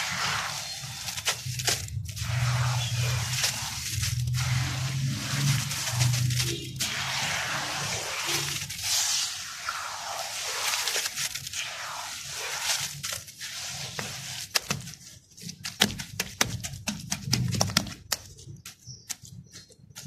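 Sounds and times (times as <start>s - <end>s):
wet mud squishing by hand: 0.0s - 20.0s
wet palms patting mud: 0.0s - 20.0s.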